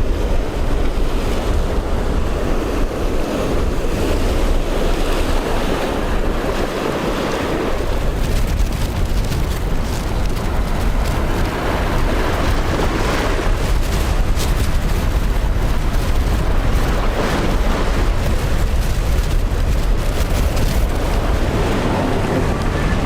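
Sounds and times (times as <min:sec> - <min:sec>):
rough seas washing: 0:00.0 - 0:23.0
wind buffeting microphone: 0:00.0 - 0:23.0.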